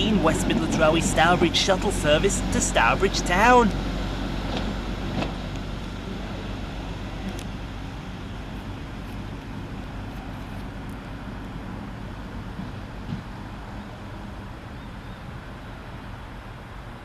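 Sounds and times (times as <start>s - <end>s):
rail noise: 0.0s - 17.0s
railcar engine hum: 0.0s - 17.0s.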